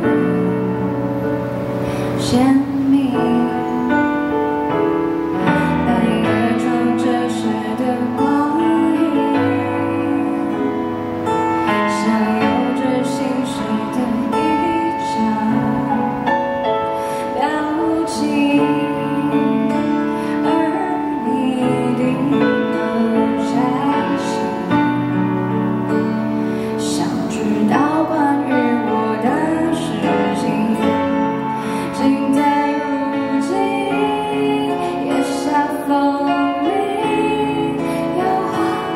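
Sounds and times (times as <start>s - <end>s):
piano: 0.0s - 38.9s
woman singing pop ballad: 0.0s - 38.9s.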